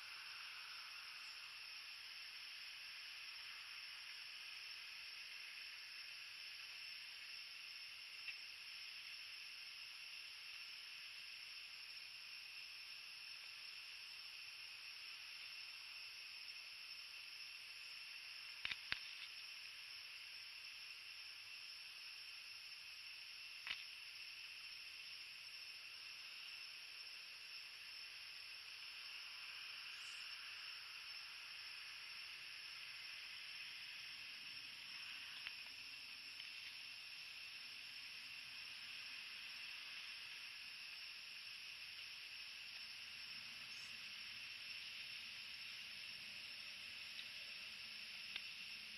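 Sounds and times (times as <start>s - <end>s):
high-pitched night hiss: 0.0s - 48.9s.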